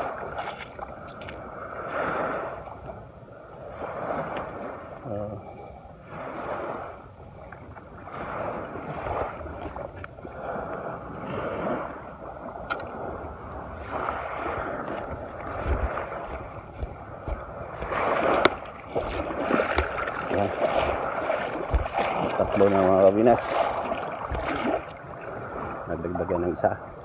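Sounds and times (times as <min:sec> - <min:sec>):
small waves lapping on shore: 0:00.0 - 0:27.0.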